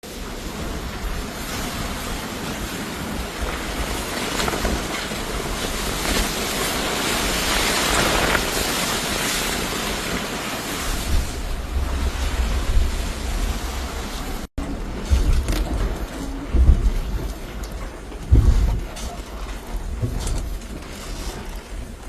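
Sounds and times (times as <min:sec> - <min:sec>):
wind: 0:00.0 - 0:22.0
floodwater rushing: 0:00.1 - 0:22.0.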